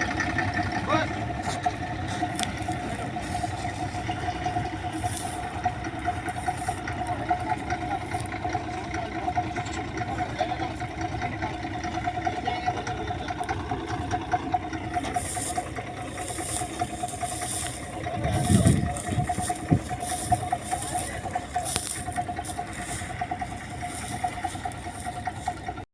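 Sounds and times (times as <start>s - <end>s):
harvester engine drone: 0.0s - 25.9s.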